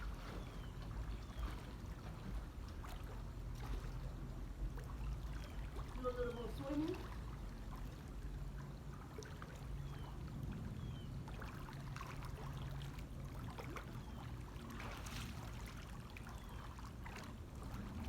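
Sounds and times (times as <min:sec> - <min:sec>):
pool water splashing: 0:00.0 - 0:18.0
steady low hum: 0:00.0 - 0:18.0.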